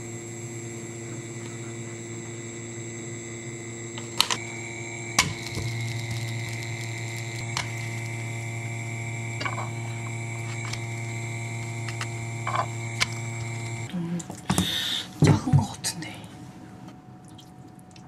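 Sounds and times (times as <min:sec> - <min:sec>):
electric cooktop humming and whining: 0:00.0 - 0:18.0.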